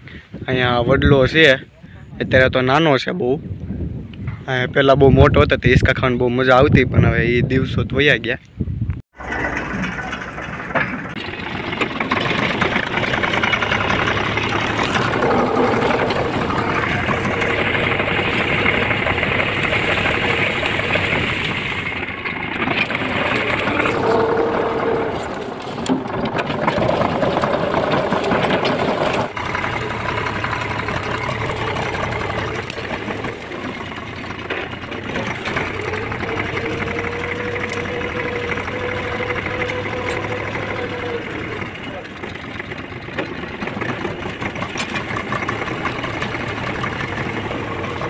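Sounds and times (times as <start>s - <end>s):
tractor diesel engine running: 9.2s - 48.0s.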